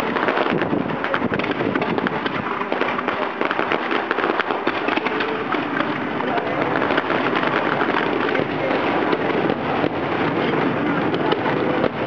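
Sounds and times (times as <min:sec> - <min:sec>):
fireworks crackling and bangs: 0:00.0 - 0:12.0.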